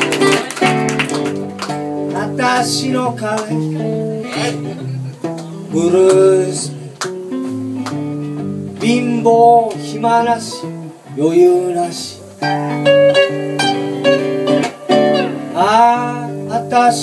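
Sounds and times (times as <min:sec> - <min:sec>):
electric guitar lead line: 0:00.0 - 0:17.0
strummed guitar chords: 0:00.0 - 0:17.0.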